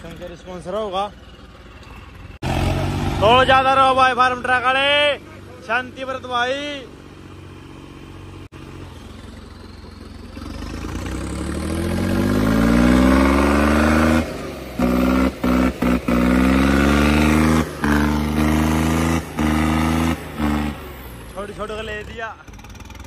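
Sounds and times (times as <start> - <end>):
tractor diesel engine revving: 0.0 - 23.0.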